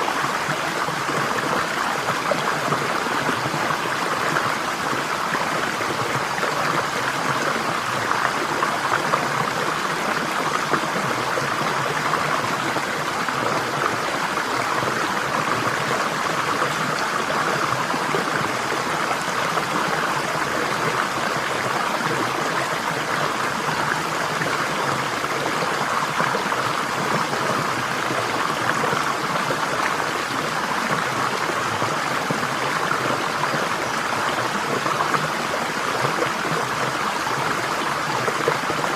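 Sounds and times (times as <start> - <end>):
flowing stream water: 0.0 - 38.9.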